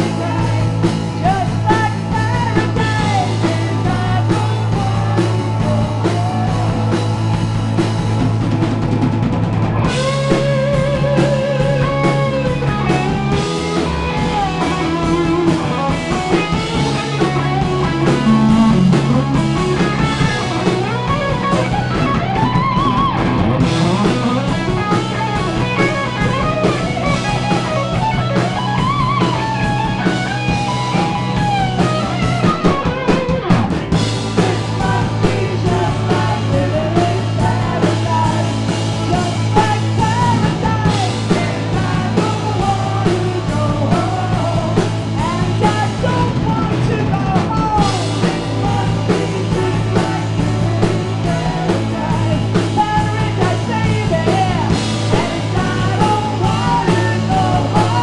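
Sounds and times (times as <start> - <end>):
bass guitar: 0.0 - 58.0
drum kit: 0.0 - 58.0
electric guitar lead with bent notes: 5.7 - 58.0.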